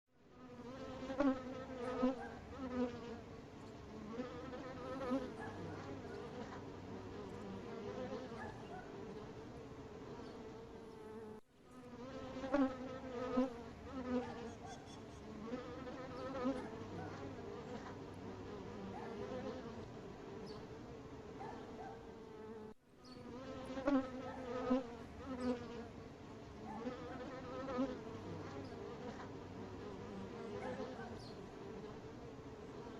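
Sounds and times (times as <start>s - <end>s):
bees droning hum: 0.3s - 32.9s
single bee buzzing past: 0.3s - 32.9s.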